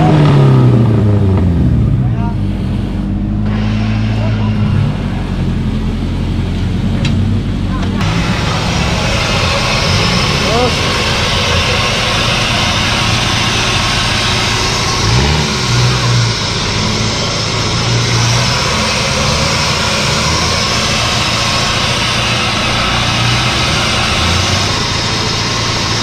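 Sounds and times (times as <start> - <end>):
engine idling and revving: 0.0 - 26.0.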